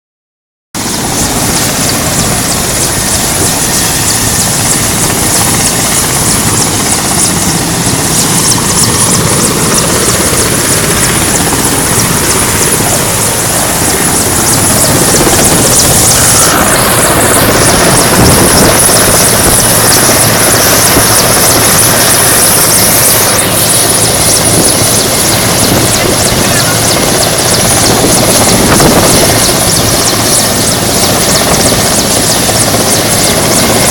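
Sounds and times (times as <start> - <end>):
helicopter turbine and rotor: 0.8 - 33.9.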